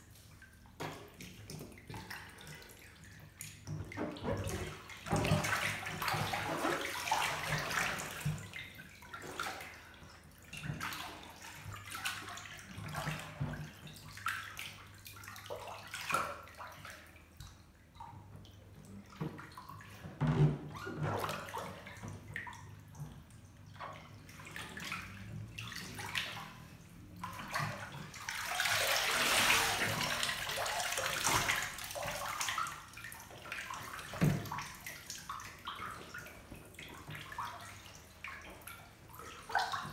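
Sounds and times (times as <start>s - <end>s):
bathwater splashing and sloshing: 0.0s - 39.9s.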